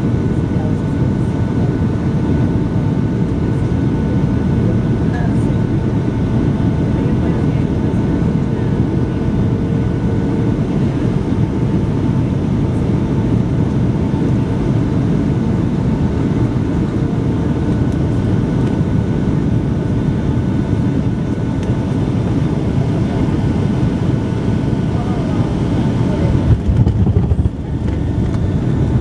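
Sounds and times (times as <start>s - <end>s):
aircraft cabin engine and airflow rush: 0.0s - 29.0s.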